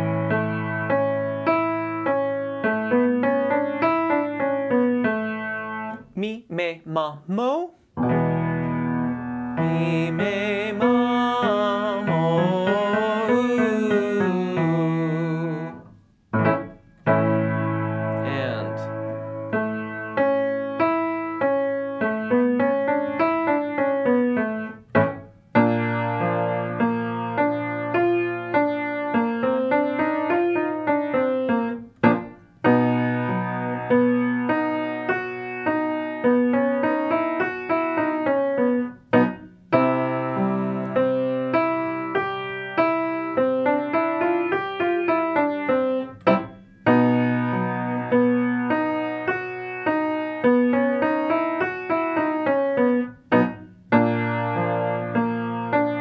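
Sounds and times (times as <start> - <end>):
grand piano accompaniment: 0.0 - 6.2, 7.9 - 56.0.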